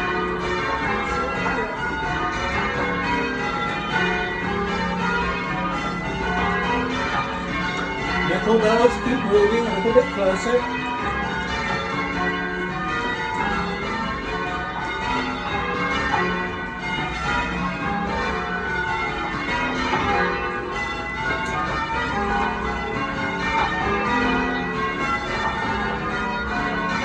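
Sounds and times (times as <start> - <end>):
church bells change ringing: 0.0 - 27.0.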